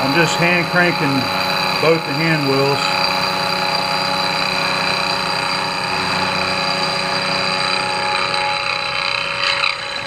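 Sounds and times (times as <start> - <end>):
milling machine cutting aluminum: 0.0 - 10.0.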